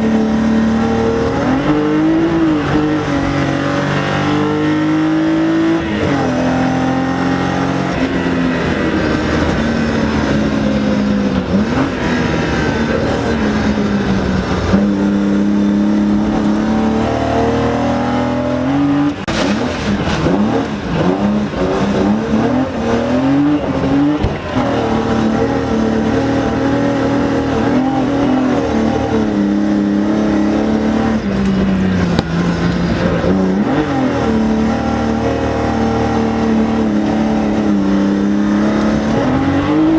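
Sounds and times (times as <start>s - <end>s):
rally car engine from inside cabin: 0.0s - 39.9s.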